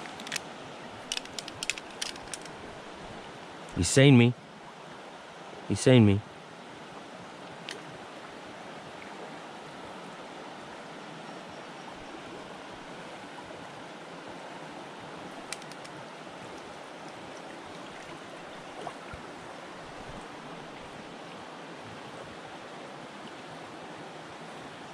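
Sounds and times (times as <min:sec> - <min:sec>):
river water flowing: 0:00.0 - 0:24.9.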